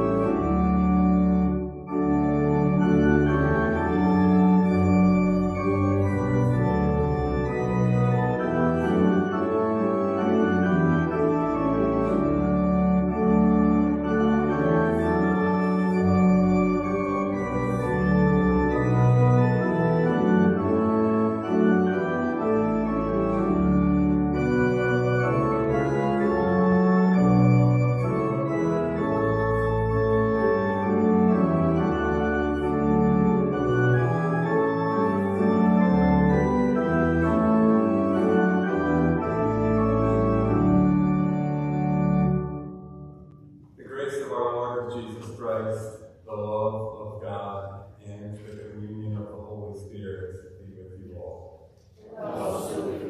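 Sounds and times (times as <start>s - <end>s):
church organ chords: 0.0s - 53.0s.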